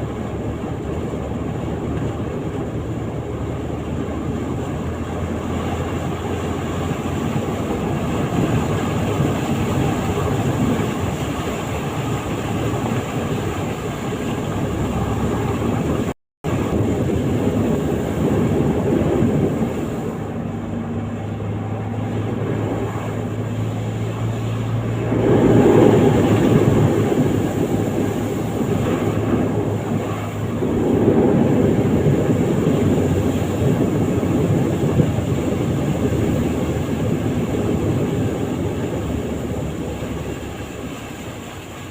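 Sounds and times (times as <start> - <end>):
vehicle engine rumbling: 0.0 - 41.9.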